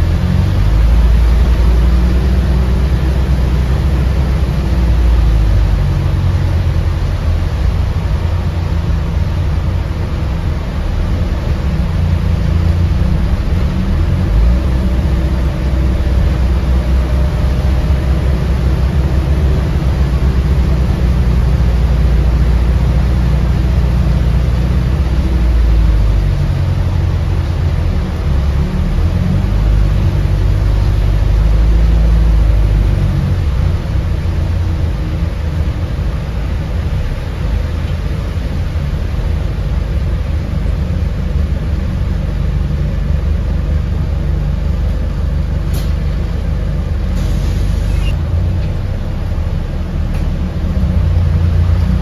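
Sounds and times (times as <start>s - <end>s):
bus interior rumble: 0.0s - 52.0s.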